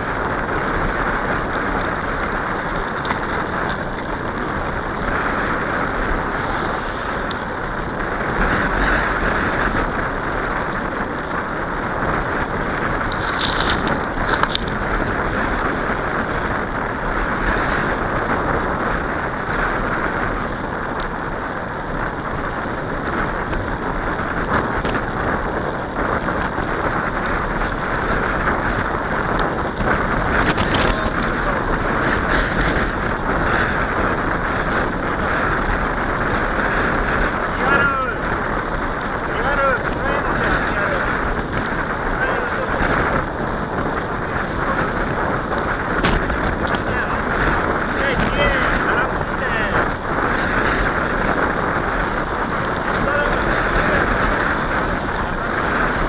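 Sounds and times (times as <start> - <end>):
bicycle ticking and rattling: 0.0 - 56.0
wind and tyre noise: 0.0 - 56.0.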